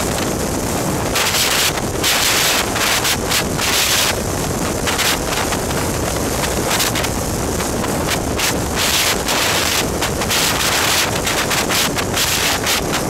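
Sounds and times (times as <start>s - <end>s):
road and engine rumble: 0.0s - 10.5s
wind buffeting microphone: 0.0s - 13.0s.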